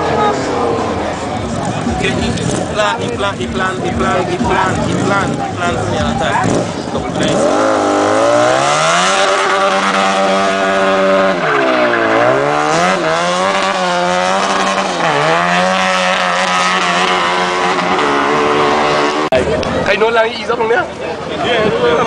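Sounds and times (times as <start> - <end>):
vehicle engine revving: 0.0 - 19.9.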